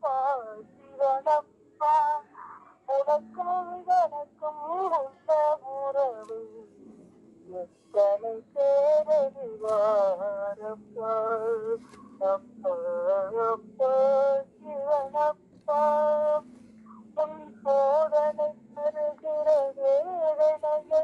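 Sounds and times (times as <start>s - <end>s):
person singing a devotional hymn: 0.0s - 21.0s.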